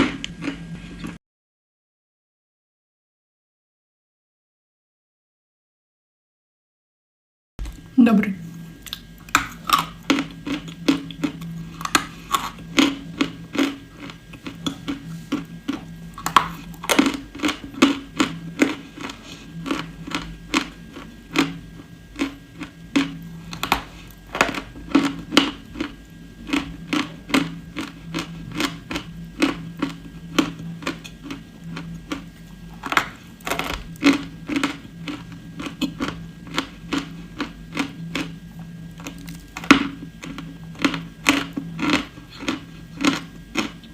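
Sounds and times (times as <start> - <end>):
chewing and crunching: 0.0 - 1.2, 8.5 - 43.9
low hum: 7.6 - 43.9.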